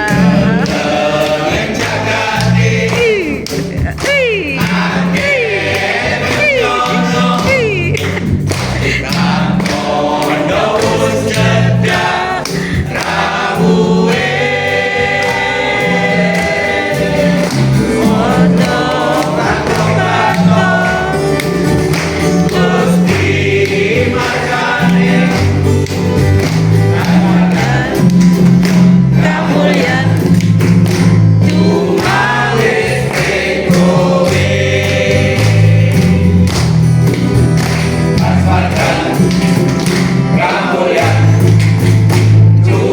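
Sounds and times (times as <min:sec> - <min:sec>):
choir singing a hymn: 0:00.0 - 0:03.4, 0:04.5 - 0:08.0, 0:08.8 - 0:36.7, 0:37.7 - 0:42.9
bass line: 0:00.0 - 0:42.9
steady beat: 0:00.0 - 0:42.9.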